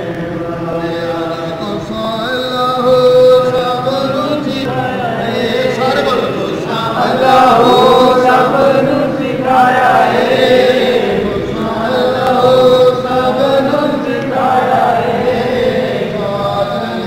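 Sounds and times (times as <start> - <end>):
voices chanting: 0.0 - 17.0.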